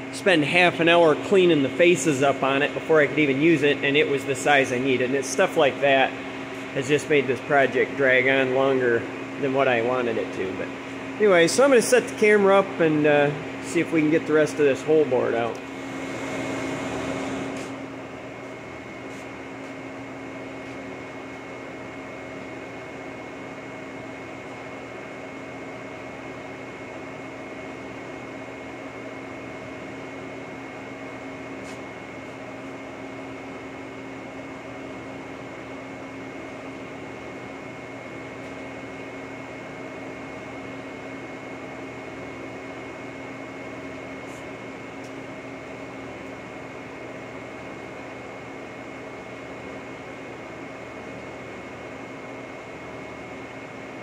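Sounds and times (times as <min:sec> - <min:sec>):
machine motor hum with whine: 0:00.0 - 0:54.0.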